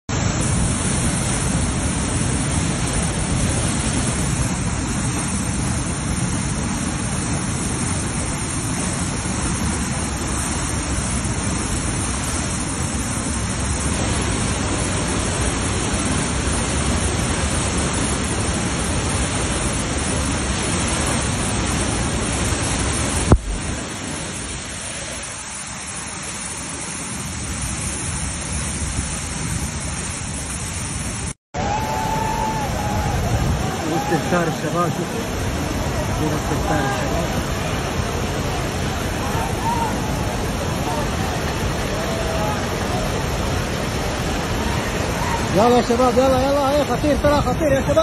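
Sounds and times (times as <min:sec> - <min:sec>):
water rushing over rocks: 0:00.1 - 0:48.0.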